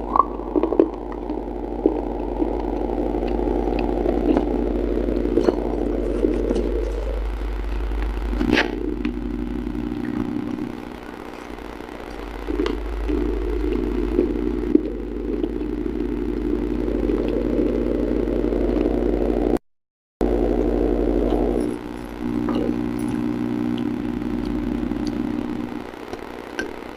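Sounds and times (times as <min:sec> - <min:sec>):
low mechanical hum: 0:00.0 - 0:19.6, 0:20.2 - 0:26.9.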